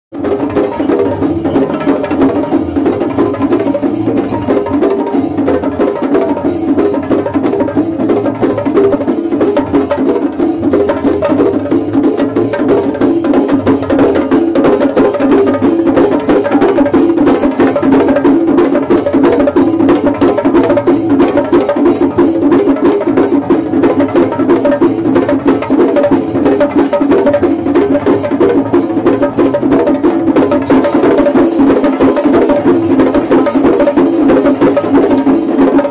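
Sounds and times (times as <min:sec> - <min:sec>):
percussion ensemble drumming: 0:00.1 - 0:35.9.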